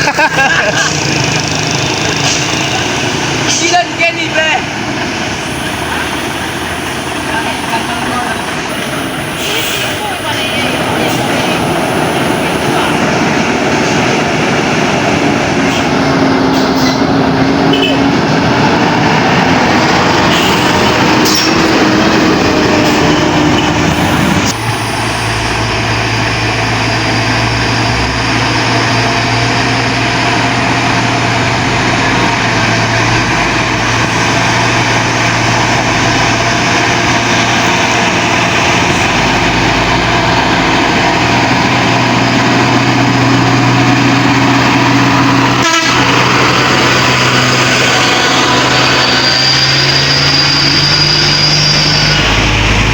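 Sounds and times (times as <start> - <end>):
heavy truck engine droning: 0.0 - 52.9.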